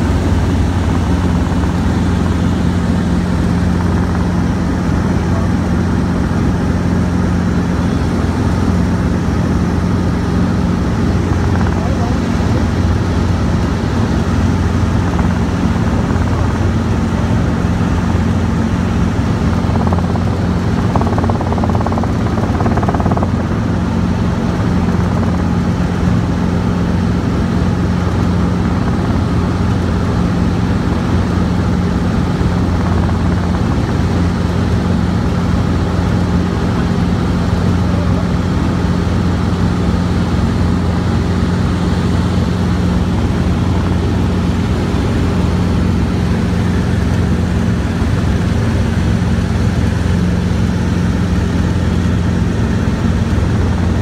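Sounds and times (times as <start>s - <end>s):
helicopter engine and rotors drone: 0.0s - 54.0s.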